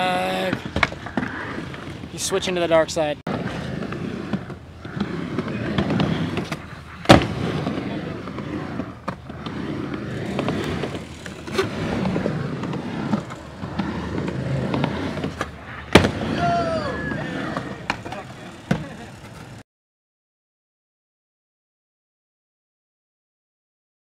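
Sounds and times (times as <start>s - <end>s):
skateboard wheels rolling: 0.0s - 19.6s.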